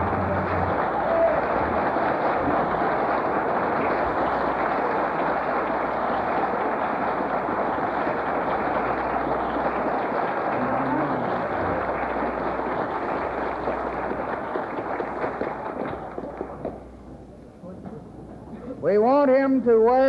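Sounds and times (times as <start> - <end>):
crowd applauding: 0.0 - 17.1.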